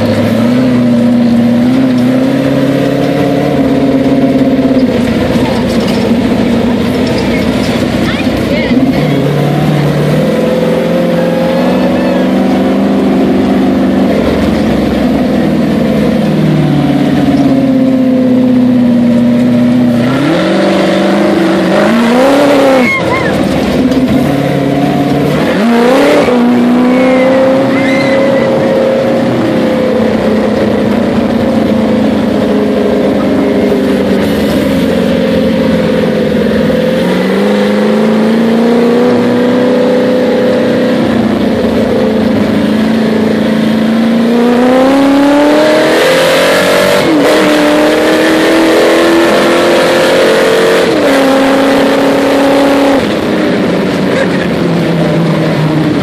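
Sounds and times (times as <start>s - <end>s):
loud car engine revving: 0.0s - 56.0s.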